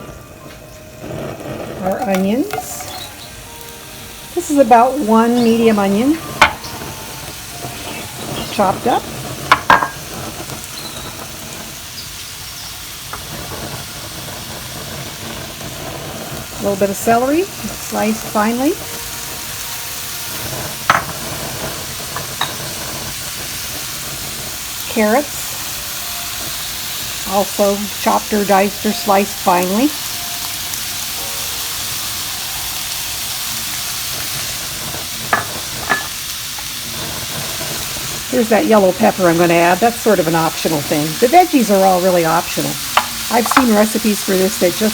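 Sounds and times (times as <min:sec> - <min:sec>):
onion sizzling in a frying pan: 0:00.0 - 0:44.9.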